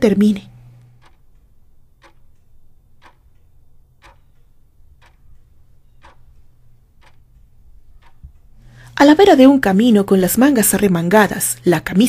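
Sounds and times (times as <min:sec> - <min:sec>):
low hum: 0:00.0 - 0:12.0
faint clock ticking: 0:00.1 - 0:12.0.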